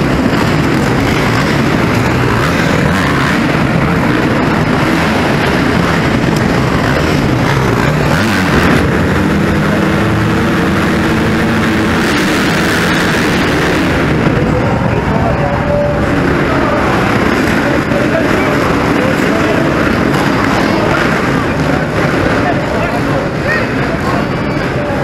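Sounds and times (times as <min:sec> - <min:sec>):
motocross engines revving: 0:00.0 - 0:25.0.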